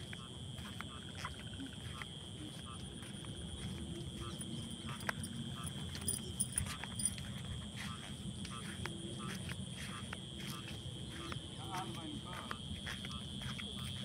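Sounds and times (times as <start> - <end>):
frogs croaking: 0.0 - 14.0
high insect drone: 0.0 - 14.0.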